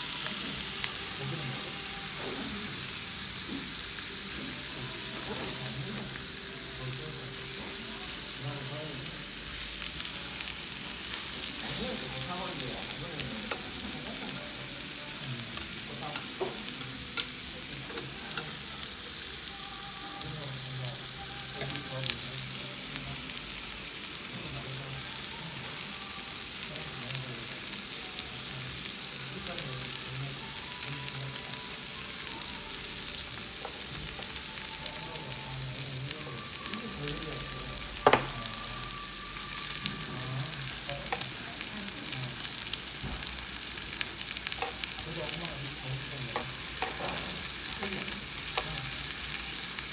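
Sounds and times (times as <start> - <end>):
meat sizzling on grill: 0.0 - 49.9.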